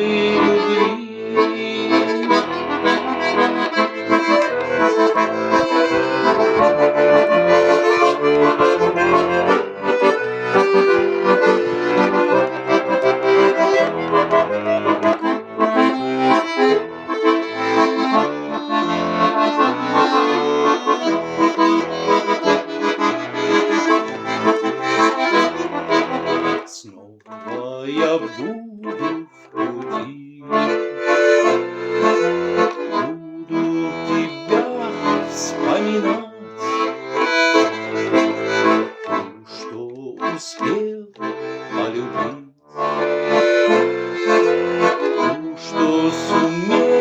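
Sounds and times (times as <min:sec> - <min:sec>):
button accordion melody: 0:00.0 - 0:47.0.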